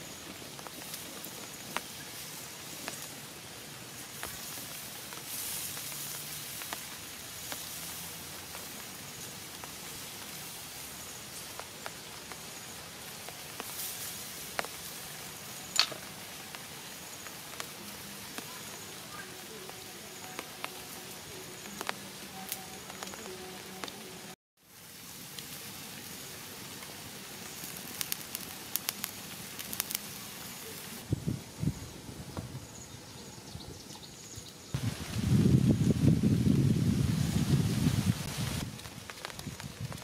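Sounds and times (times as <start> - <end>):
meat sizzling on hot stone: 0.0 - 24.0, 24.7 - 31.0, 38.2 - 40.0
wood fire crackling and popping: 0.0 - 31.1, 37.9 - 40.0.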